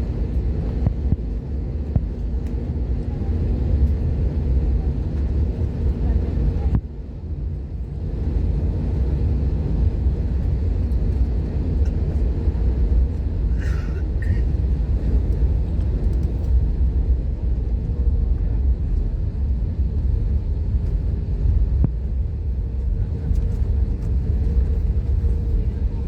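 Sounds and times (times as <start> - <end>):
airliner cabin low rumble: 0.0 - 26.0.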